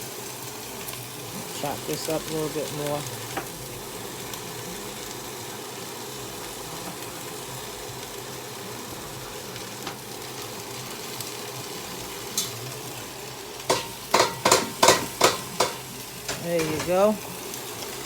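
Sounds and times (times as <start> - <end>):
cabbage sizzling in a hot pot: 0.0 - 18.0.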